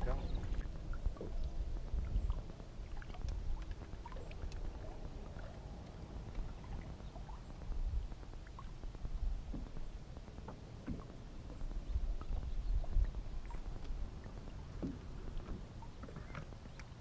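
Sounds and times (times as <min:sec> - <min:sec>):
water lapping against hull: 0:00.0 - 0:17.0
wind buffeting microphone: 0:00.0 - 0:17.0
faint ticks: 0:00.6 - 0:17.0.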